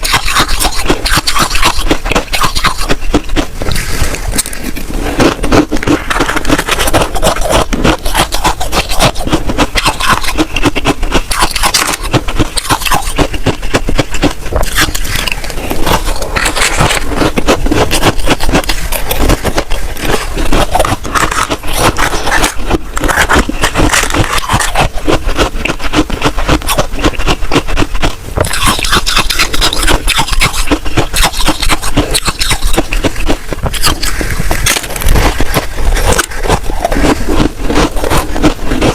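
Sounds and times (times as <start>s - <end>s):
freezer frost scraped and crunched: 0.0s - 38.9s.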